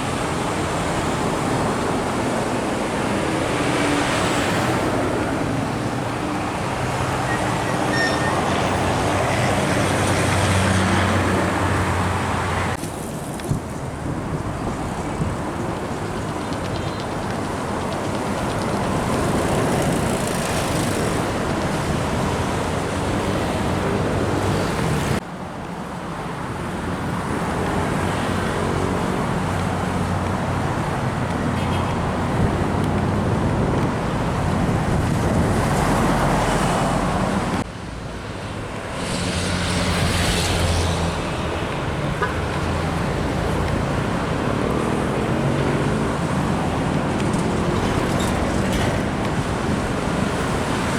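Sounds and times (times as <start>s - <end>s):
road traffic passing: 0.0s - 50.9s.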